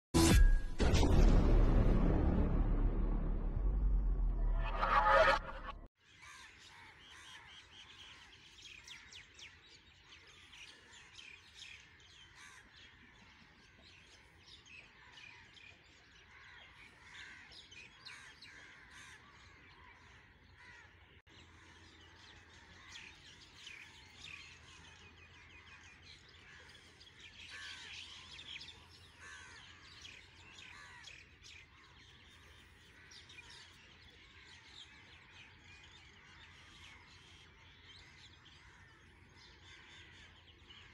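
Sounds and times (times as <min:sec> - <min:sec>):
many birds chirping: 0:06.0 - 0:40.9.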